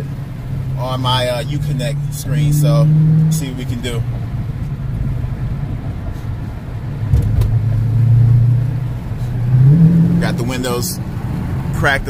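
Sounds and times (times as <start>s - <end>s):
car engine drone from inside: 0.0s - 12.0s
road noise: 0.0s - 12.0s.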